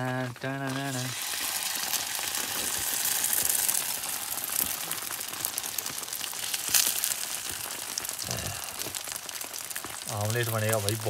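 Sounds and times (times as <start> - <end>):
egg sizzling in hot oil: 0.0 - 11.0.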